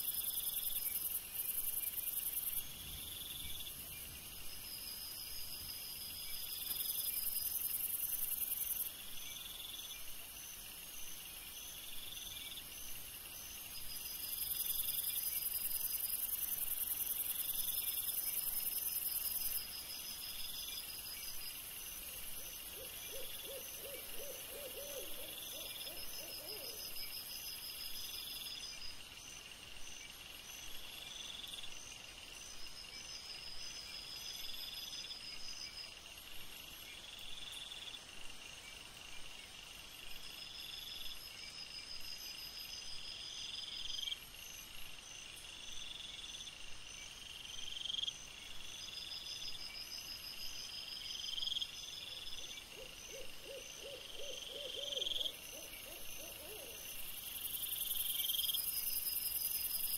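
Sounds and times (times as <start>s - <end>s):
high insect chirp: 0.0s - 59.9s.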